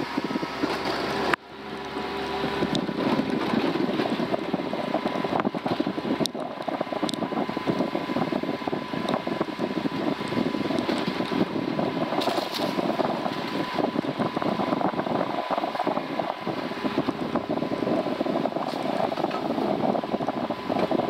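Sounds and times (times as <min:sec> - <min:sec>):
utility vehicle engine rumble: 0:00.0 - 0:21.0.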